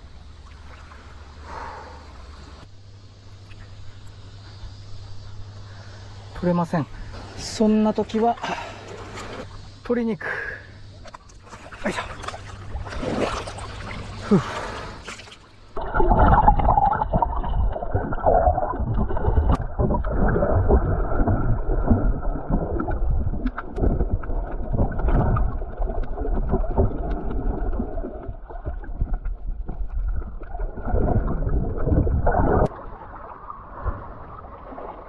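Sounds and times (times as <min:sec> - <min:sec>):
muffled churning water: 0:00.0 - 0:35.0.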